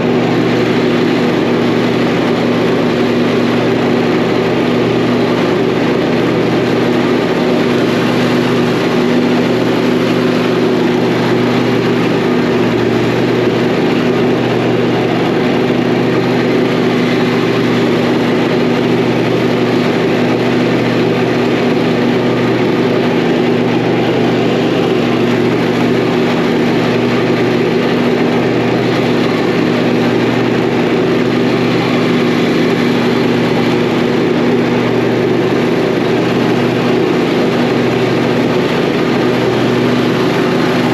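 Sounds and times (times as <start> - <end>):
mower engine droning: 0.0 - 40.9.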